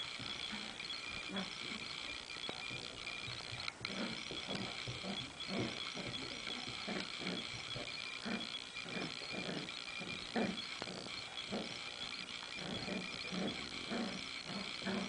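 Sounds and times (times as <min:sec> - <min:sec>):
dogs growling and grunting: 0:00.1 - 0:15.0.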